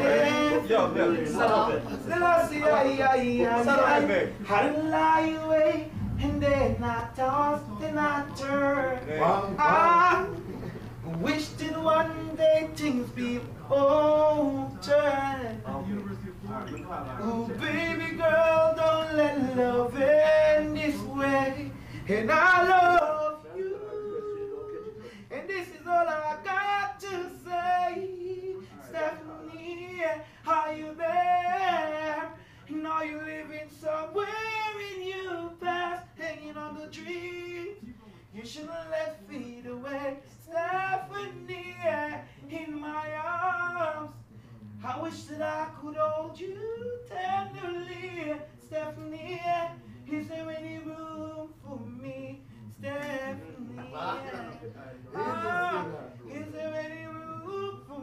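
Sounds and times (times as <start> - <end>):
man singing unaccompanied: 0.0 - 58.0.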